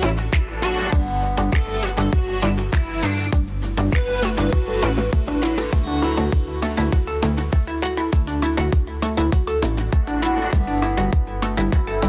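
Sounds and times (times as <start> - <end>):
afrobeat music with drums and bass: 0.0 - 12.0.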